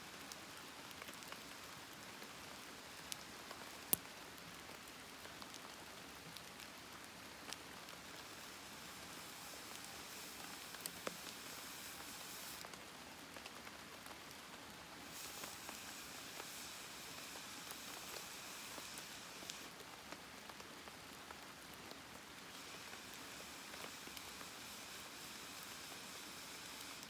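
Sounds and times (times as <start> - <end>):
campfire crackling and hissing: 0.0 - 27.0.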